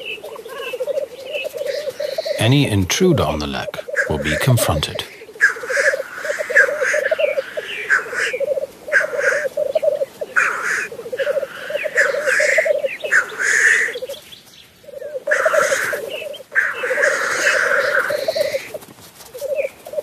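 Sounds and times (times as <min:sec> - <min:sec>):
grouse bubbling cooing song: 0:00.0 - 0:14.2, 0:14.8 - 0:20.0.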